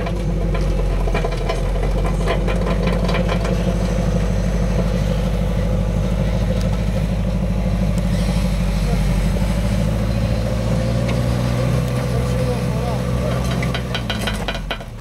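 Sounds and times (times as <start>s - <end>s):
truck engine running low revs: 0.0s - 15.0s.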